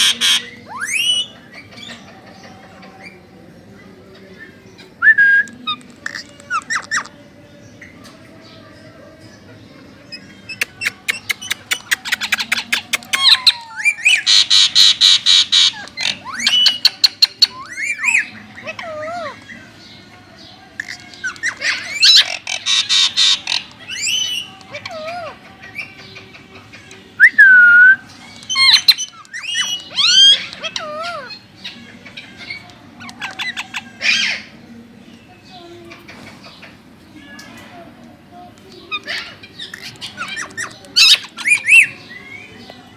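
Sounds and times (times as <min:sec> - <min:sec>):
parakeets chirping and squawking: 0:00.0 - 0:05.0, 0:05.7 - 0:27.1, 0:28.1 - 0:34.8, 0:38.8 - 0:42.7.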